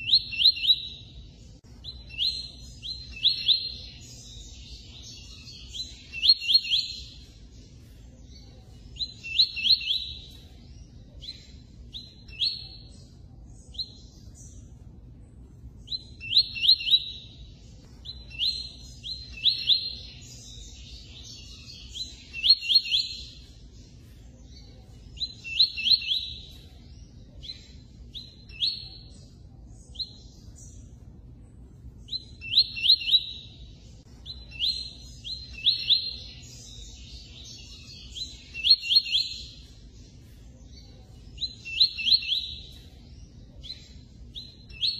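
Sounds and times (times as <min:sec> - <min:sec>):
bird singing high chirps: 0:00.0 - 0:44.9.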